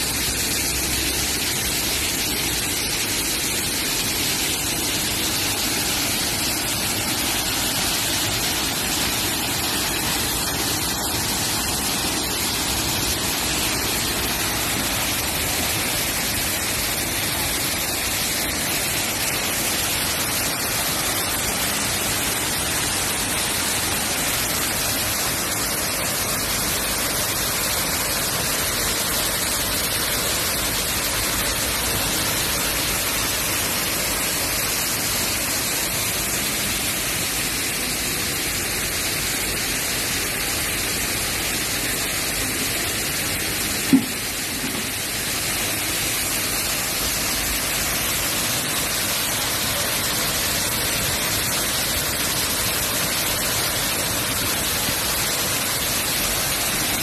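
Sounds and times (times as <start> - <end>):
waterfall splashing into pool: 0.0 - 57.0.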